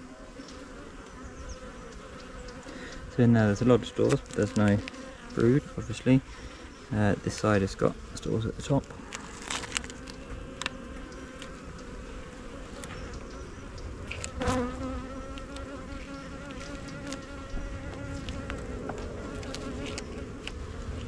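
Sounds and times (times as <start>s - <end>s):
bee flying past: 0.0s - 21.0s
bees buzzing: 0.0s - 21.0s.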